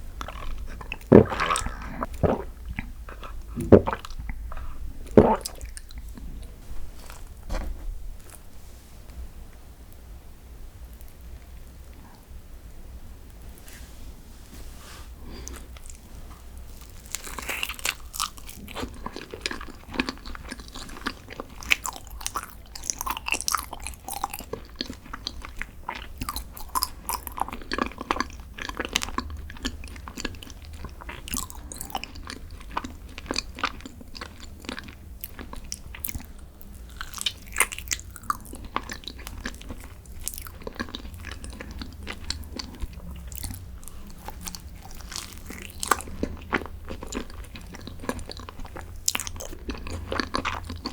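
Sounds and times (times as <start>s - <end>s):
crunchy dessert being chewed: 0.0s - 7.4s, 15.2s - 50.9s.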